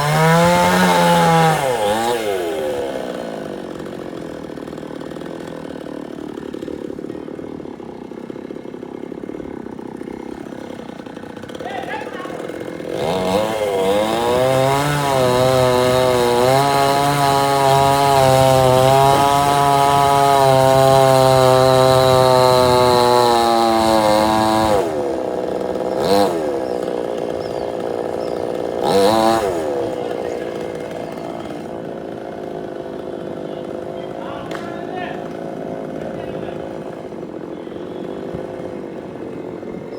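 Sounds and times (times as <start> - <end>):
chainsaw cutting at full throttle: 0.0 - 39.9
chainsaw throttle blips: 0.0 - 39.9.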